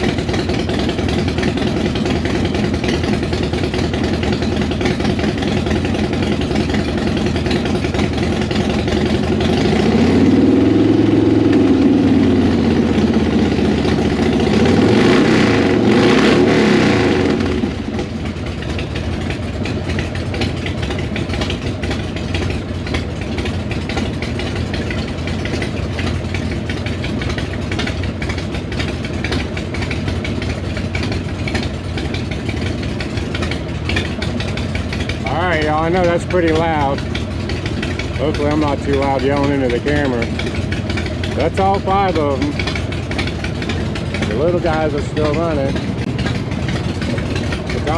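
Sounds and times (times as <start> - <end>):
motorcycle engine revving: 0.0 - 47.9
motorcycle engines idling: 0.0 - 47.9.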